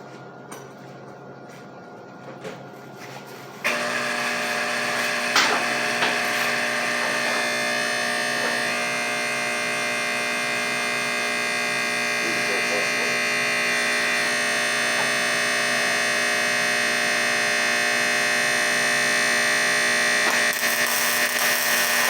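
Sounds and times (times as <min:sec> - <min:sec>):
electric power tool running: 0:03.6 - 0:22.0.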